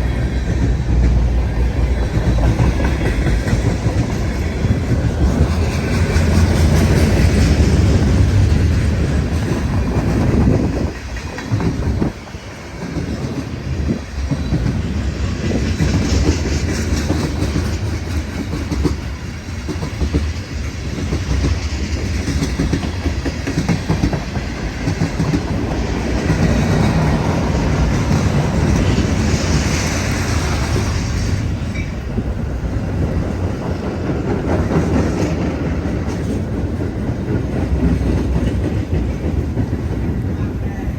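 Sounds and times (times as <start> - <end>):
wheels clacking over rail joints: 0.0 - 40.4
train cars rumbling past: 0.0 - 40.9.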